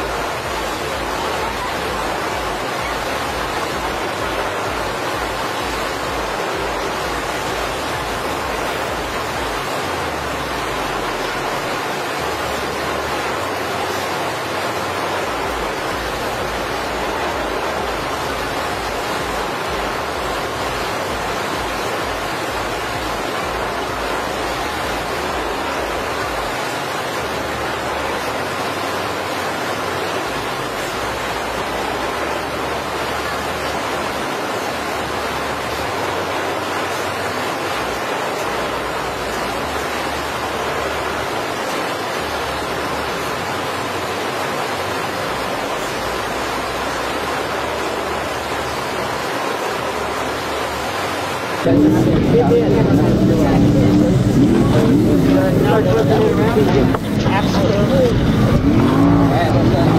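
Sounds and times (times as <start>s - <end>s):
steady rushing noise: 0.0s - 59.9s.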